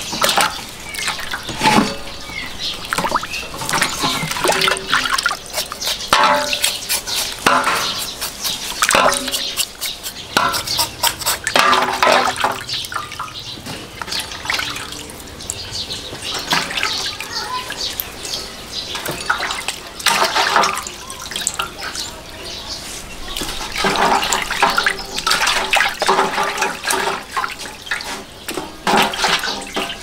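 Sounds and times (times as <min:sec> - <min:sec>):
water splashing in a metal basin: 0:00.0 - 0:22.4, 0:23.2 - 0:30.0.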